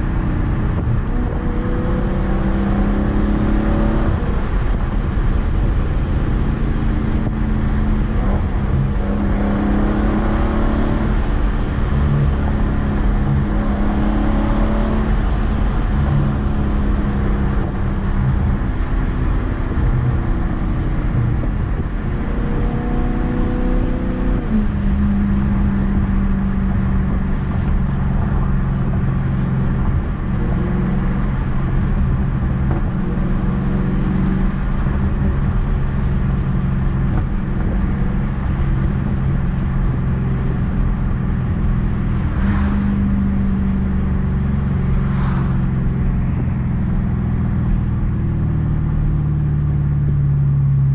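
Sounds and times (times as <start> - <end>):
car exhaust drone from cabin: 0.0 - 50.9
road rumble: 0.0 - 50.9.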